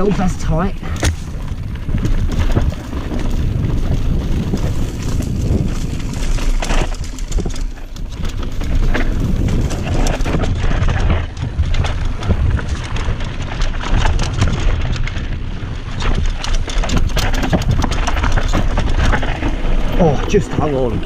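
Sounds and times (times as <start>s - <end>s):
bike rattling and knocking: 0.0s - 21.0s
wind rumble on microphone: 0.0s - 21.0s.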